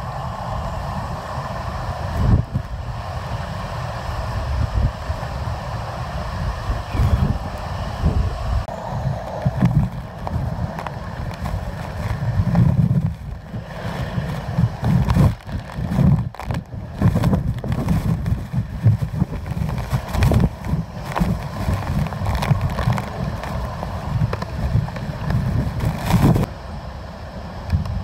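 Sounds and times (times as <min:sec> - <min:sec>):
wind gusting on microphone: 0:00.0 - 0:28.0.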